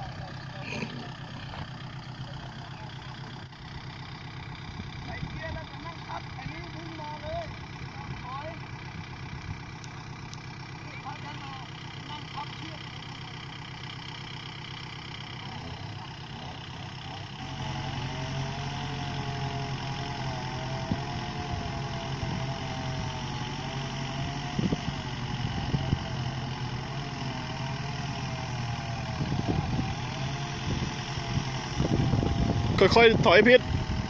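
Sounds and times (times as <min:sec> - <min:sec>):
diesel tractor engine running: 0:00.0 - 0:34.0.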